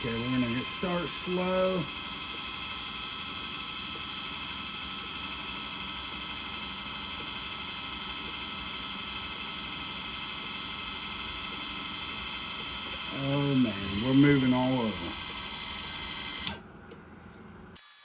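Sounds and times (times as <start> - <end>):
drill press motor humming: 0.0 - 17.1, 17.7 - 18.0.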